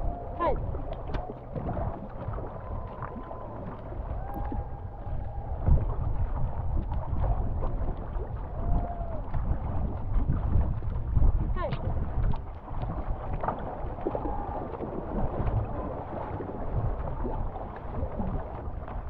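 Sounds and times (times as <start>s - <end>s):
paddle strokes in water: 0.0s - 19.0s
water rushing along hull: 0.0s - 19.0s
wind rumble on microphone: 0.0s - 19.0s.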